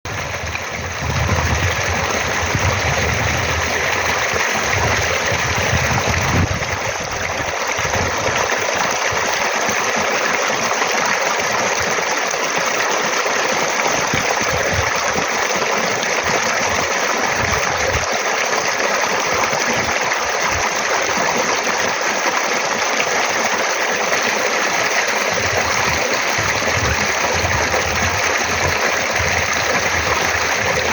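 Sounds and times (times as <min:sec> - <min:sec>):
stream water rushing: 0:00.1 - 0:30.9.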